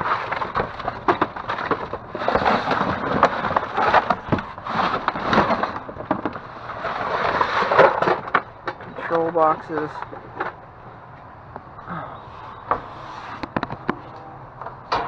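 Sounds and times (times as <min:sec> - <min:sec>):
rustling and crackling bags: 0:00.0 - 0:15.0.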